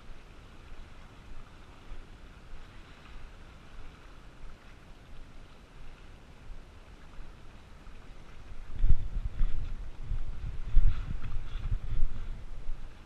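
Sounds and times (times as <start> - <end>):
small waves lapping on rocks: 0.0 - 13.0
wind rumbling on microphone: 0.0 - 13.0.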